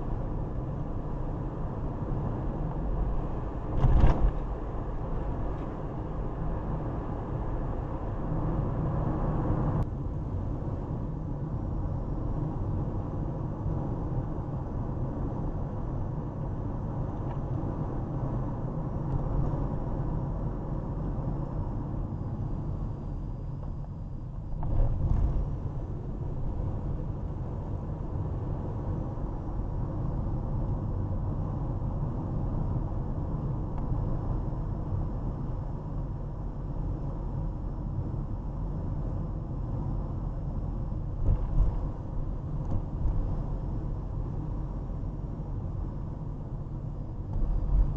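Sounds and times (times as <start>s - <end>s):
road and engine rumble: 0.0s - 47.9s.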